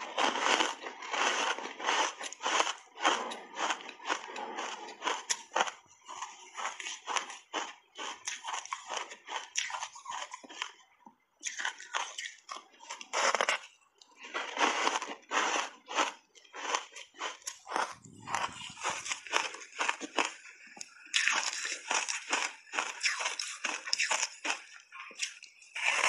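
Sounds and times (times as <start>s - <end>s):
person chewing ice crunching: 0.0s - 26.0s.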